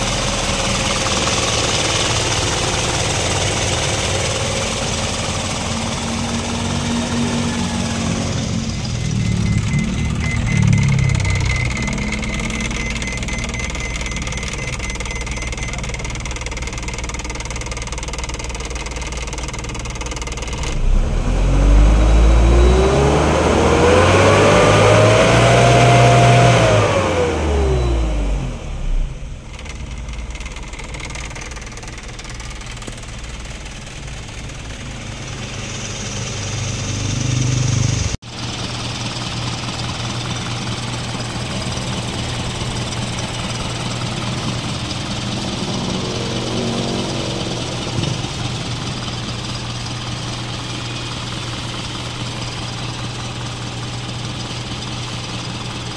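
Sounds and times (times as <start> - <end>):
diesel engine idling and revving: 0.0 - 55.9.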